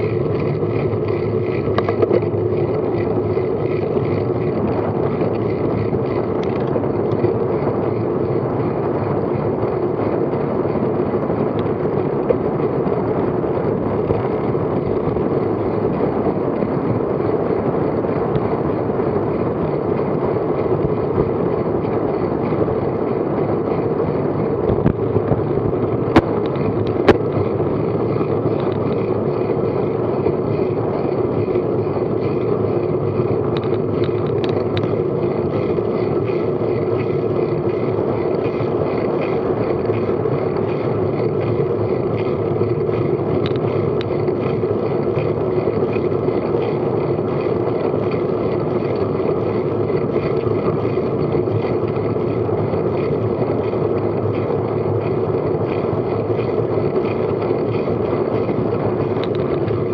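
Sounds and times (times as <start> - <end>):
bike tyres rolling on tarmac: 0.0 - 59.9
wind noise on microphone: 0.0 - 59.9.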